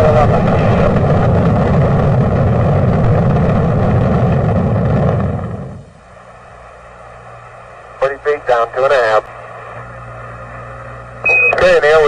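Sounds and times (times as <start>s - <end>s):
rocket engines deep rumble: 0.0s - 12.0s.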